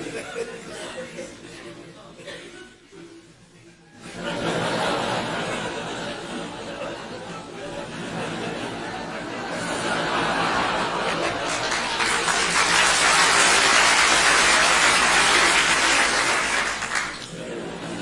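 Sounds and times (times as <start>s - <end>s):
audience laughing and clapping: 0.0s - 2.2s, 4.0s - 18.0s.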